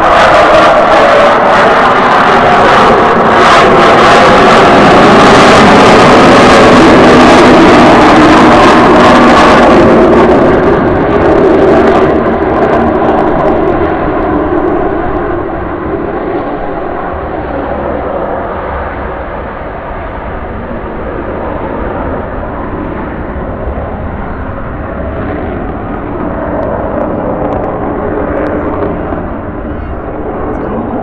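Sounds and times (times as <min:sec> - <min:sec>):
jet engine roaring past: 0:00.0 - 0:31.0.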